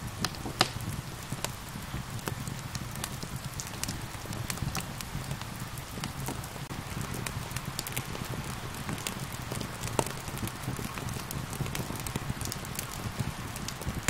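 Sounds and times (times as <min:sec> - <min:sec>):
gentle rain hissing: 0:00.0 - 0:14.0
wood fire crackling: 0:00.0 - 0:14.0.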